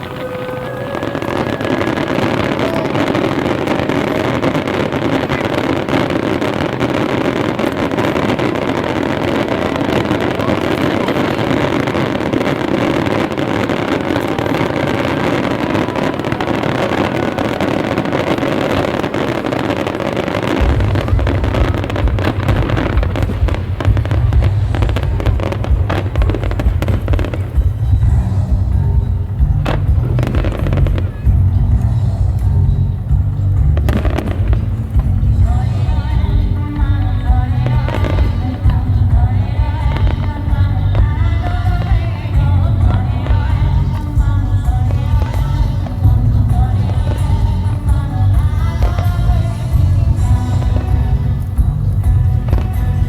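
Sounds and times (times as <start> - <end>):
fireworks crackling and popping: 0.0 - 53.0
heavy fireworks booms: 0.0 - 53.0.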